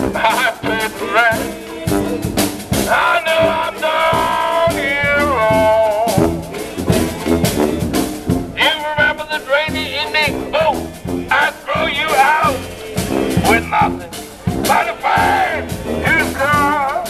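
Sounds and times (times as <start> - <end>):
jazz street band playing: 0.0 - 17.0
saxophone: 0.0 - 17.0
snare drum beat: 0.0 - 17.0
sousaphone bass: 0.0 - 17.0.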